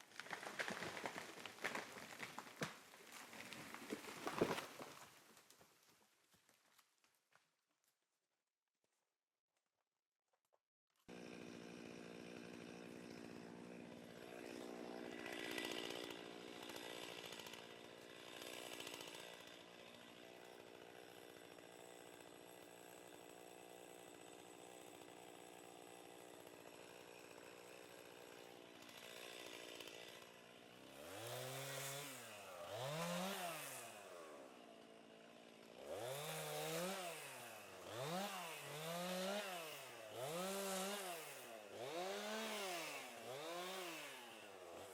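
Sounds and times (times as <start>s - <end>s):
chainsaw idling and revving: 0.0s - 4.8s, 11.0s - 44.9s.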